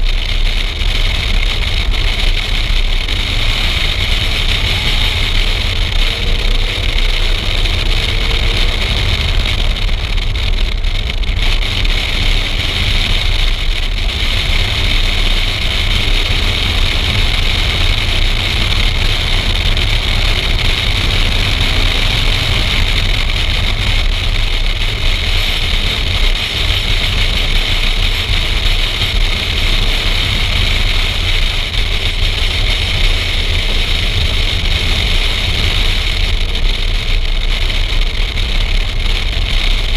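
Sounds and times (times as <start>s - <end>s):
car engine at speed: 0.0s - 39.9s
wind rushing over camera: 0.0s - 39.9s.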